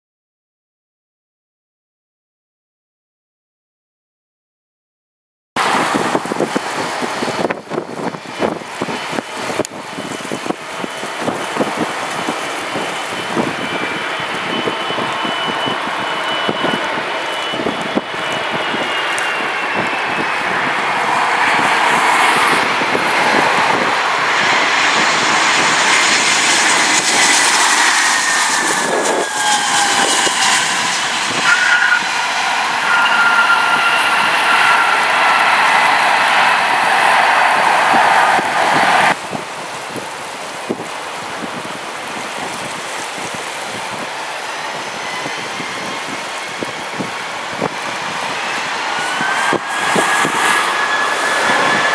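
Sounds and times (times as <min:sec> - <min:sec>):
distant jet engines: 0:05.6 - 0:51.9
wind buffeting microphone: 0:05.6 - 0:51.9.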